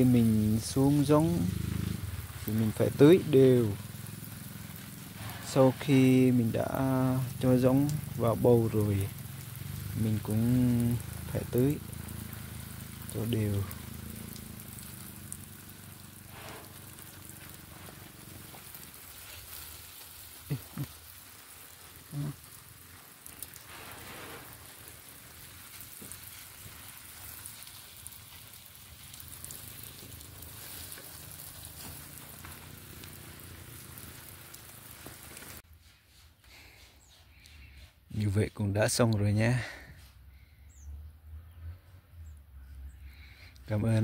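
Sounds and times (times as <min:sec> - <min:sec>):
water spraying on leaves: 0:00.0 - 0:35.9, 0:43.2 - 0:44.0.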